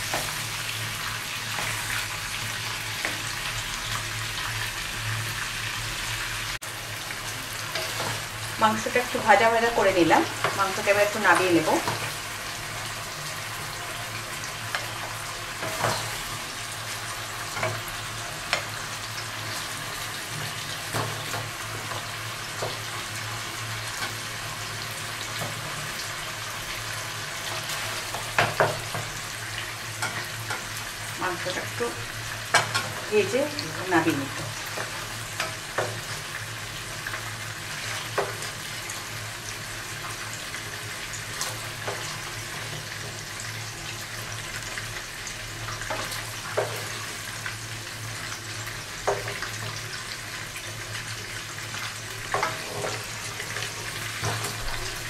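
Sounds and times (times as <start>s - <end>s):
chicken sizzling in hot oil: 0.0s - 55.0s.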